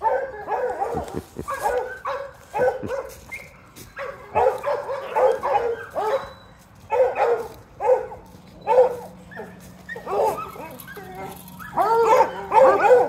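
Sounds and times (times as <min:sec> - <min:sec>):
dog barking: 0:00.0 - 0:13.0.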